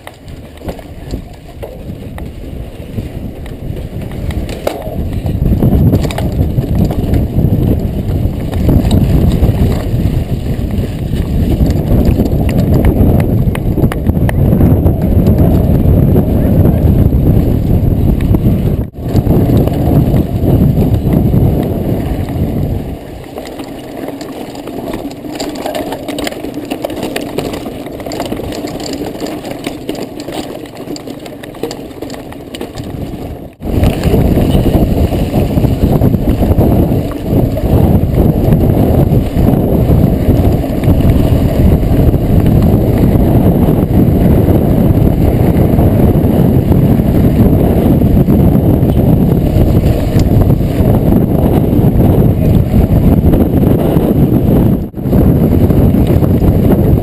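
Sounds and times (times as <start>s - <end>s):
bike rattling over gravel: 0.0s - 57.0s
wind buffeting microphone: 0.0s - 57.0s.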